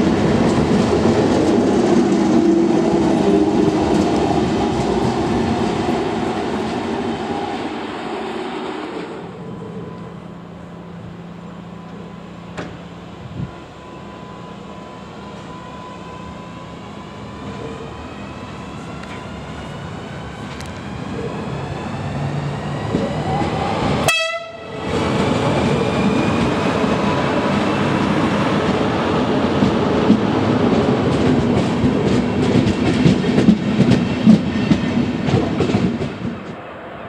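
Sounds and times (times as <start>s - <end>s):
electric locomotive whine: 0.0s - 37.0s
train wheels rumbling: 0.0s - 37.0s.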